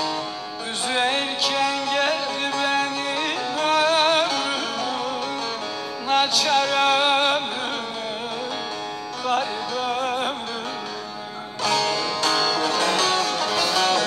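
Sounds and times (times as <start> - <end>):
instrument accompanying: 0.0 - 14.0
man singing with vibrato: 0.0 - 14.0.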